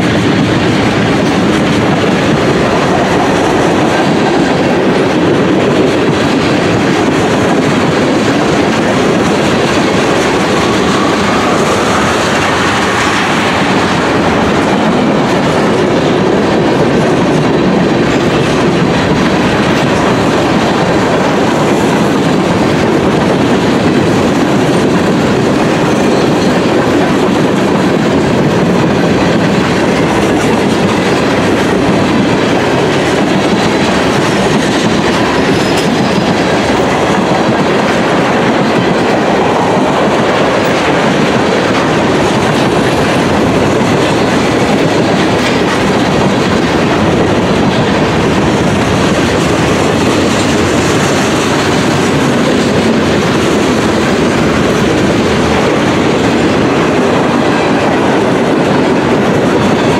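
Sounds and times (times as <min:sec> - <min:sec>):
steel wheels rolling on rails: 0:00.0 - 0:59.9.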